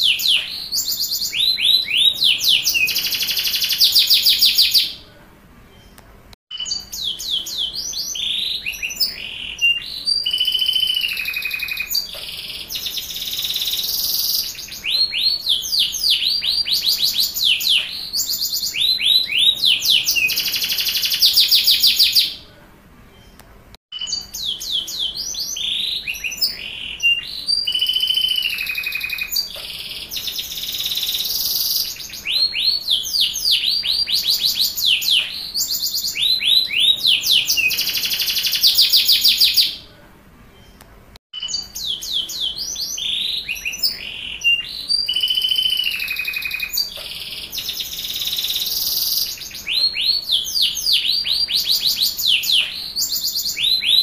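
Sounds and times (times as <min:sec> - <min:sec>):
canary singing trills: 0:00.0 - 0:05.0, 0:05.8 - 0:22.4, 0:23.2 - 0:39.9, 0:41.4 - 0:54.0.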